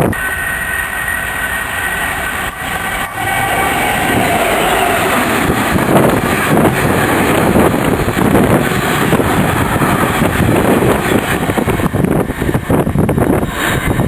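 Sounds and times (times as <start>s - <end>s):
freight train wheels rumbling on rails: 0.0s - 14.0s.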